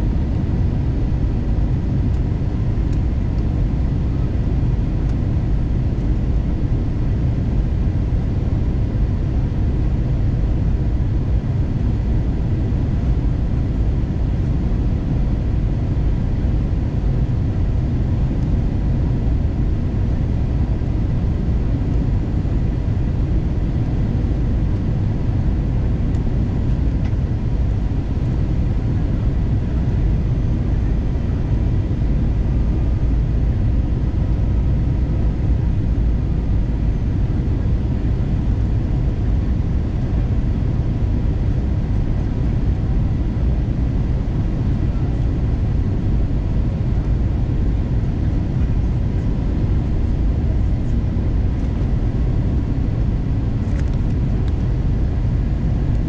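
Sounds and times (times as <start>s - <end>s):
airliner cabin rumble: 0.0s - 56.0s
faint steady hums: 0.0s - 56.0s.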